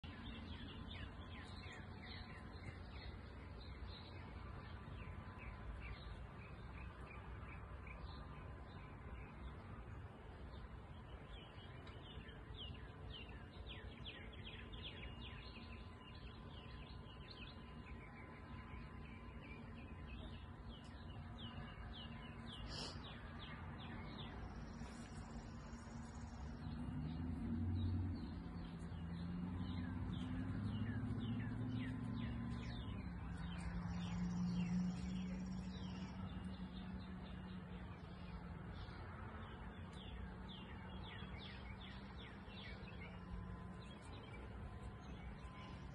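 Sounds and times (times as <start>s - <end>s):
low drone: 0.0s - 45.9s
songbirds chirping: 0.0s - 45.9s.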